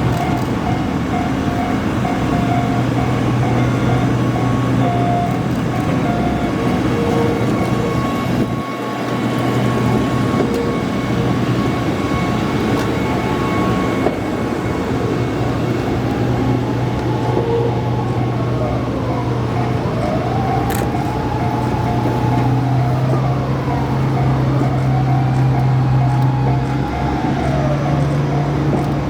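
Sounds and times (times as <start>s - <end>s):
level-crossing alarm dinging: 0.0s - 29.0s
low engine hum: 0.0s - 29.0s
train passing over crossing: 0.0s - 29.0s.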